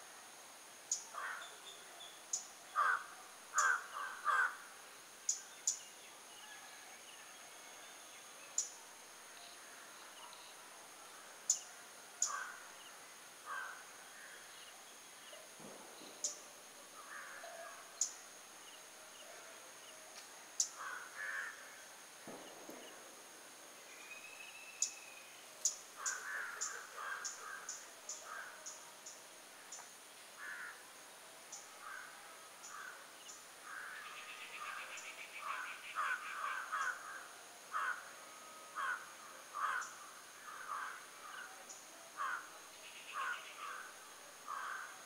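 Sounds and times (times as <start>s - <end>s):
faint high-pitched hum: 0.0s - 45.0s.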